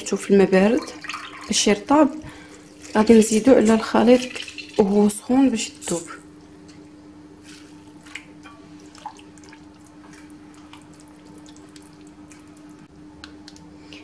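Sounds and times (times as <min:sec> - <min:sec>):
steady hum: 0:00.0 - 0:14.0
water dripping: 0:00.6 - 0:06.9, 0:07.8 - 0:13.7.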